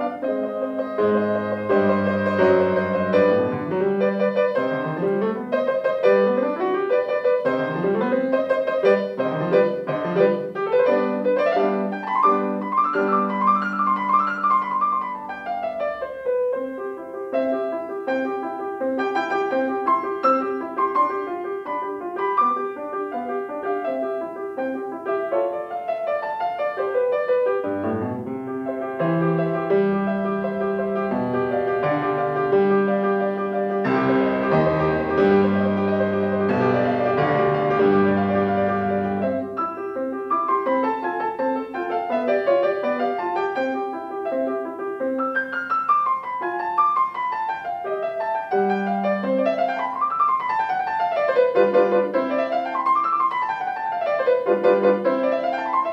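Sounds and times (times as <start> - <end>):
solo grand piano piece: 0.0 - 55.9.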